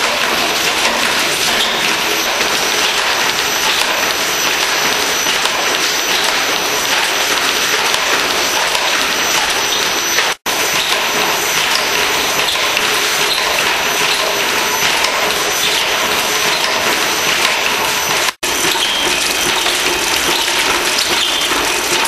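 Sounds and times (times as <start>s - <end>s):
test machine drums clattering: 0.0s - 22.0s.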